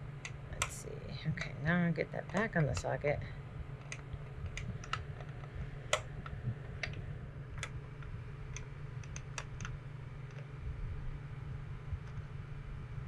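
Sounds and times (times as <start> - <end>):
swamp cooler hum: 0.0 - 13.0.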